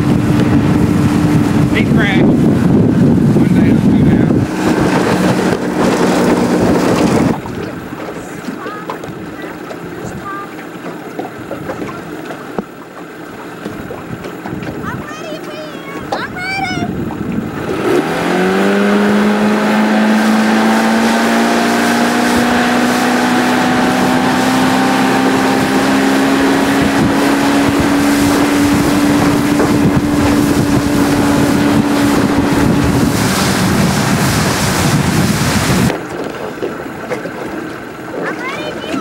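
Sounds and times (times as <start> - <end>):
wind on microphone: 0.0 - 12.8, 13.4 - 39.0
outboard motor revving: 0.0 - 39.0
rushing water: 0.0 - 39.0.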